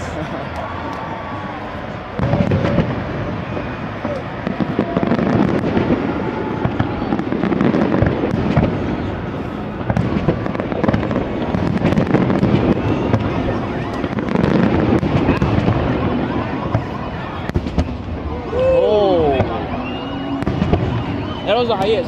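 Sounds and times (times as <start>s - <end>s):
firework cracks and crackle: 0.0s - 22.0s
firework booms: 2.0s - 22.0s.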